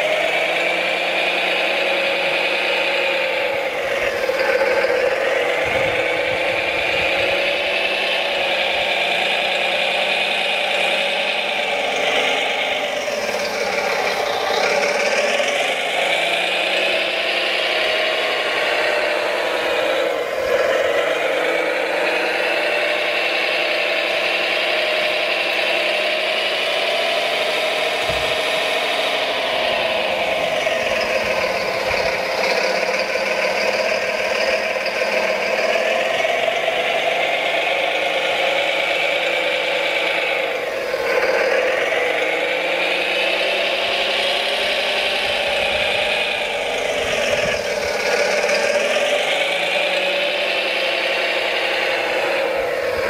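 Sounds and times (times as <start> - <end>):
electric motors whirring: 0.0 - 53.0
rattle: 0.0 - 53.0.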